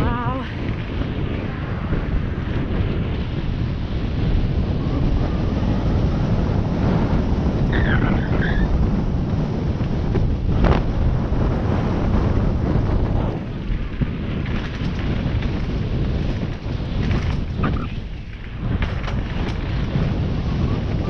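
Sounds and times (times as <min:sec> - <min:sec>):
tyres rumbling and rattling on trail: 0:00.0 - 0:21.0
wind buffeting microphone: 0:00.0 - 0:21.0.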